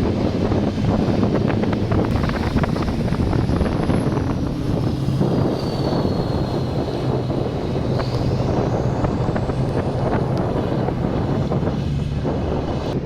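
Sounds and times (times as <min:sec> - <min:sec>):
high engine whine: 0:00.0 - 0:13.0
racing truck engines droning: 0:00.0 - 0:13.0
wind buffeting microphone: 0:00.0 - 0:13.0.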